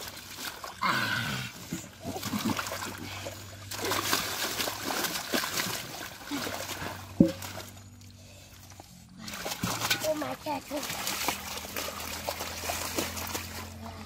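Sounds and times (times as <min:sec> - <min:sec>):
muddy water splashing: 0:00.0 - 0:14.0
fish thrashing: 0:01.4 - 0:14.0.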